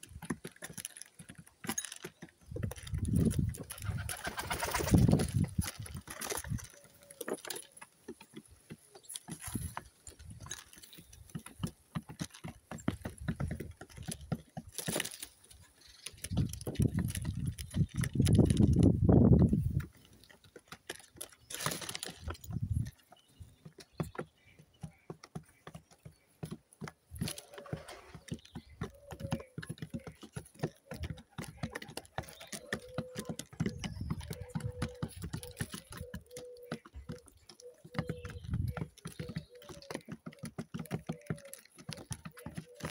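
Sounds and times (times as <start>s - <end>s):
pigeons pecking at food: 0.0s - 42.9s.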